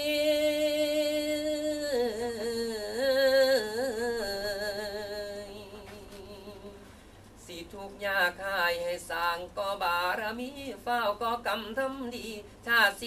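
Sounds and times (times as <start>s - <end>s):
man singing unaccompanied: 0.0s - 6.8s, 7.4s - 13.0s.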